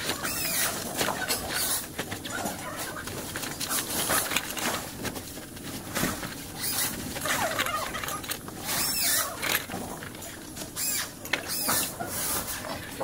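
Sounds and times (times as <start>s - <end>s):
fabric rustling and scraping: 0.0s - 13.0s.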